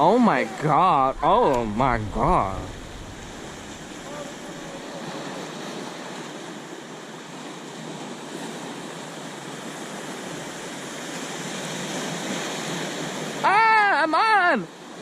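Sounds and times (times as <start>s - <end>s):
ocean surf over rocks: 0.0s - 15.0s.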